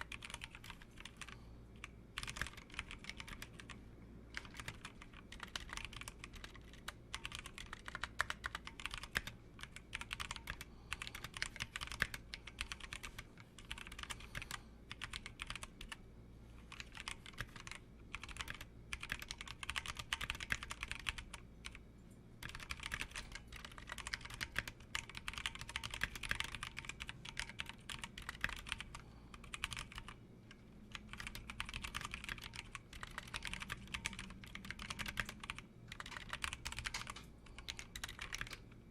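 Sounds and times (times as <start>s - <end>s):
mechanical keyboard typing: 0.0s - 16.0s, 16.7s - 21.8s, 22.4s - 38.8s.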